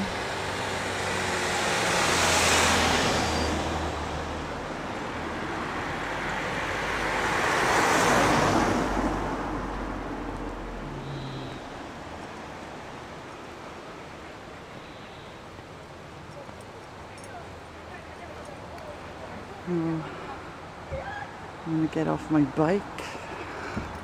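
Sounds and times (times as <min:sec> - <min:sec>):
cars passing close: 0:00.0 - 0:24.0.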